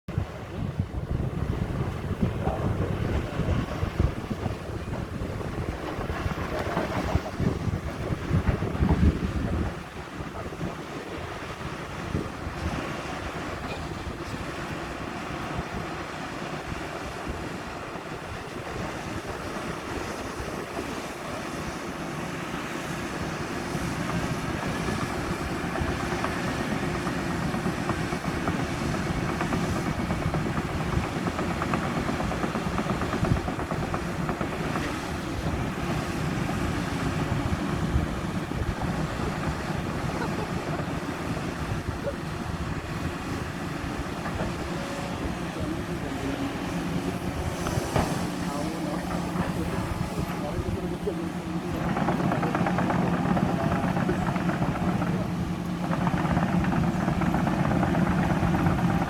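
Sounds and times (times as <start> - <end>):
excavator diesel engine running: 0.1 - 59.0.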